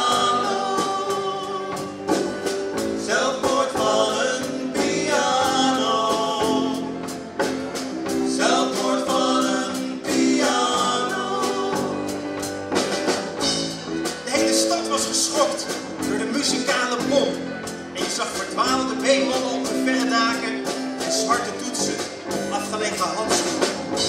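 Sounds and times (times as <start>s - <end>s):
man singing: 0.0s - 7.2s, 8.0s - 12.4s, 14.2s - 23.6s
acoustic guitar: 0.0s - 24.0s
drums steady beat: 0.0s - 24.0s
electric bass: 0.0s - 24.0s.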